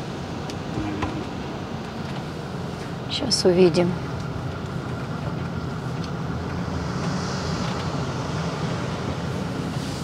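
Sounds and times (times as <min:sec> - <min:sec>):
engine humming inside cab: 0:00.0 - 0:10.0
road noise: 0:00.0 - 0:10.0.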